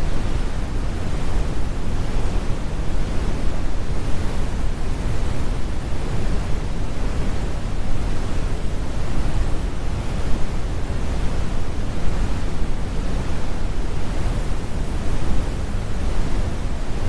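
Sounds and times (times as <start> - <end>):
brown noise: 0.0 - 17.0.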